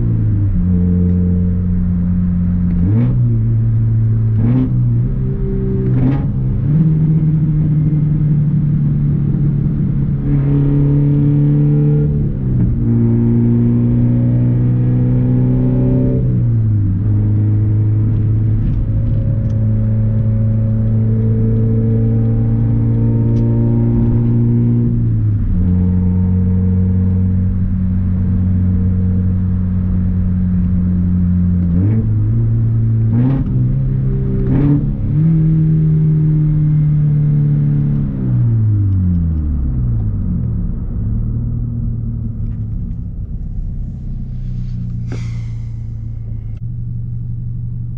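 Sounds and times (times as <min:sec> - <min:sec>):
car engine droning: 0:00.0 - 0:47.9.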